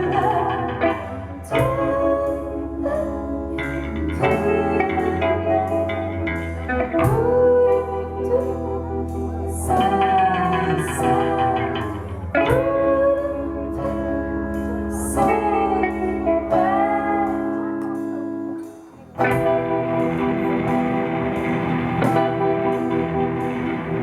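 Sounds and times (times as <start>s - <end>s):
guitar: 0.0s - 24.0s
live band playing: 0.0s - 24.0s.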